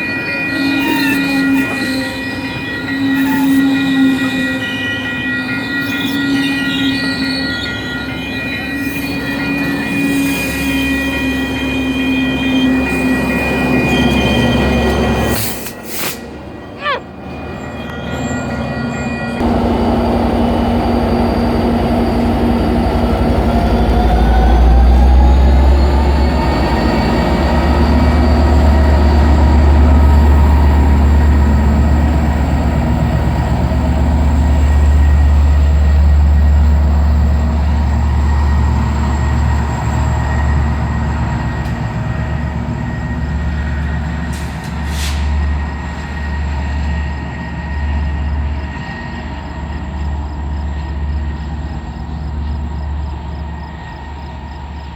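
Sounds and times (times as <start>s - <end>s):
train rumbling: 0.0s - 54.9s
train whine: 0.0s - 54.9s.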